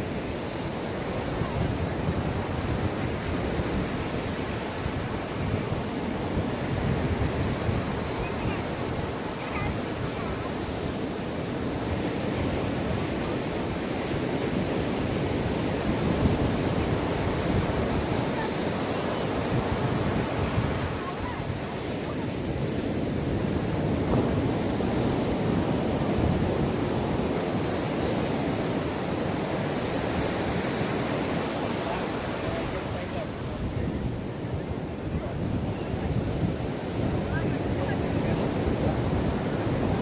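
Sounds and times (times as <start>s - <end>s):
ocean waves washing onto beach: 0.0s - 40.0s
wind buffeting microphone: 0.0s - 40.0s.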